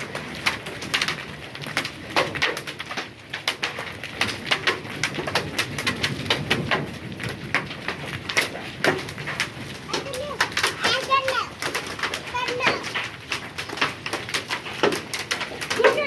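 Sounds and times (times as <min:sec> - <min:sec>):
hailstones striking hard surface: 0:00.0 - 0:16.0.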